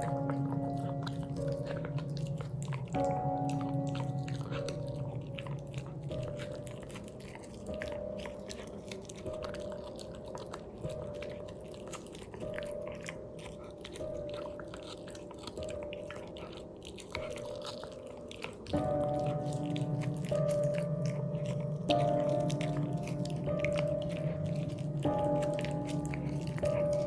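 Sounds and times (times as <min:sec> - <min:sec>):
dog crunching a hard treat: 0:00.0 - 0:27.0
soft background music: 0:00.0 - 0:27.0.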